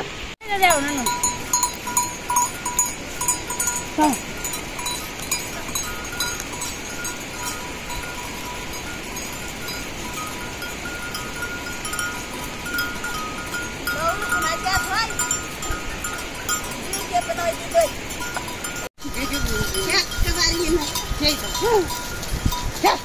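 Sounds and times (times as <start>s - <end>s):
livestock bells clinking: 0.4s - 23.0s.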